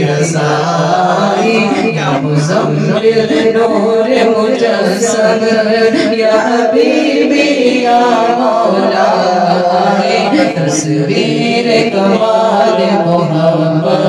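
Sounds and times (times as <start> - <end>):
men chanting into a microphone: 0.0 - 14.0.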